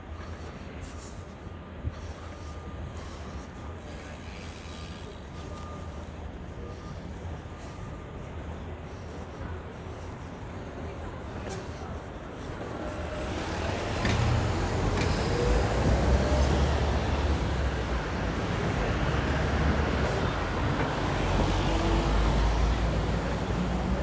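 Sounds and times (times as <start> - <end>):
road traffic passing: 1.9 - 7.2, 9.3 - 24.0.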